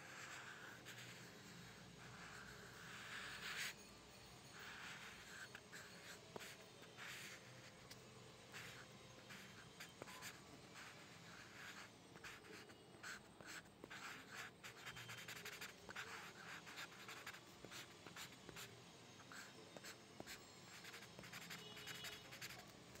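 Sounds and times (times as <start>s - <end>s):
pencil scratching on paper: 0.0s - 3.8s, 4.5s - 7.8s, 8.5s - 23.0s.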